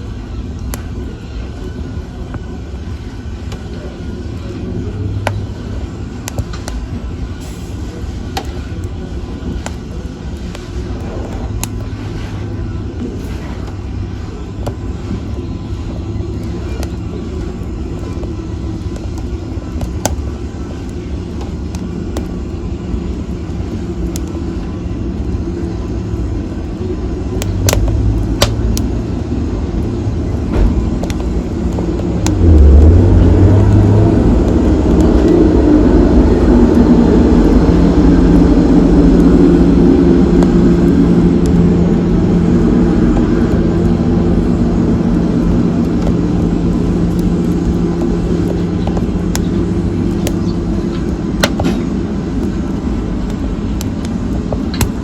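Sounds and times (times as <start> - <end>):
fire rumbling in fireplace: 0.0 - 55.0
sharp fire crackles: 0.0 - 55.0.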